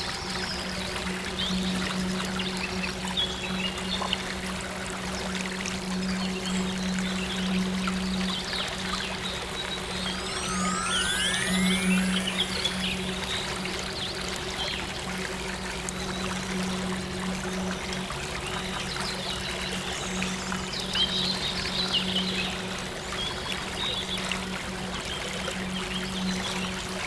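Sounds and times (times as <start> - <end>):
soft synth drone: 0.0 - 27.0
stream water flowing: 0.0 - 27.0.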